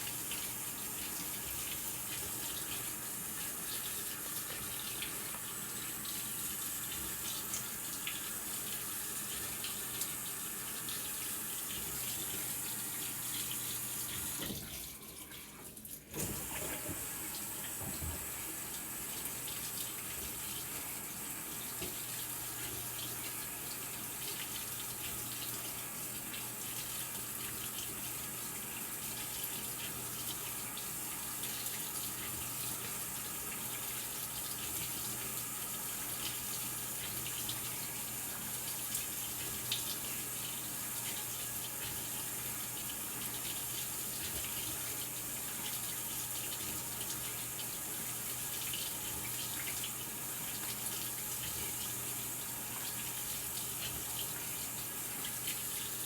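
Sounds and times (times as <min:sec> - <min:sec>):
water pouring into washing machine: 0:00.0 - 0:56.0.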